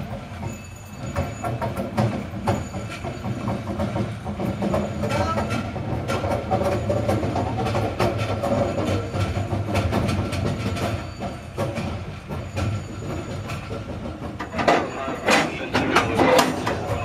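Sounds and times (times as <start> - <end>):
metallic clicks and clanks: 0.1 - 17.0.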